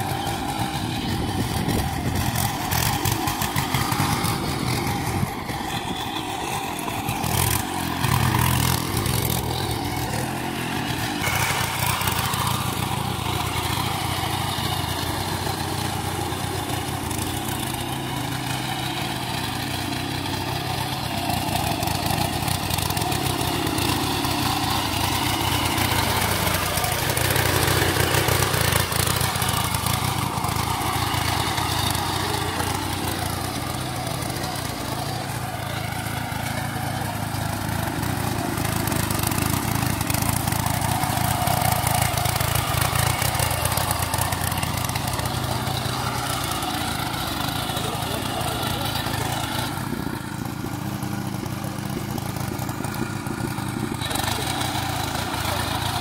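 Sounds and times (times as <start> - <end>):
power tiller engine running: 0.0 - 56.0
tines churning wet mud: 0.0 - 56.0.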